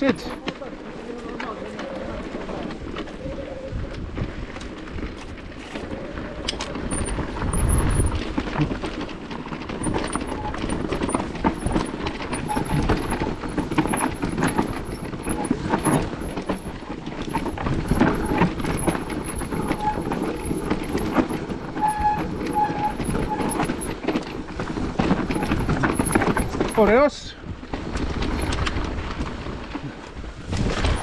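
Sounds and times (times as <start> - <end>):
bike rattling on rough trail: 0.0 - 31.0
wind rumble on microphone: 1.7 - 31.0.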